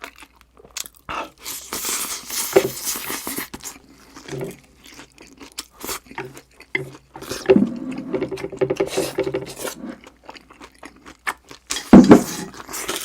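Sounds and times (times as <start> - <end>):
chewing food: 0.0 - 13.0.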